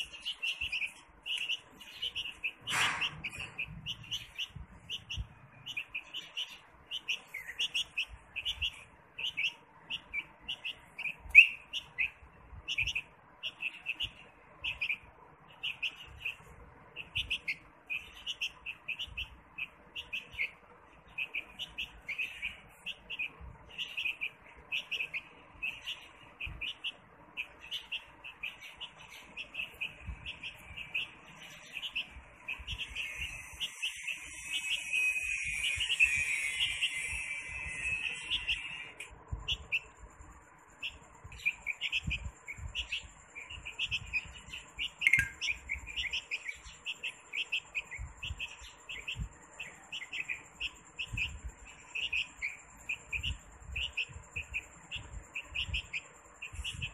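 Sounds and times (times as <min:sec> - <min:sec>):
baby bird chirping: 0:00.0 - 0:56.9.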